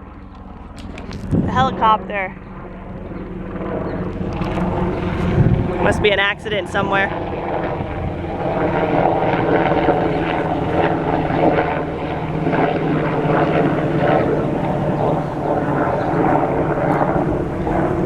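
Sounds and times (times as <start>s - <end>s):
helicopter flying by: 0.0s - 18.0s.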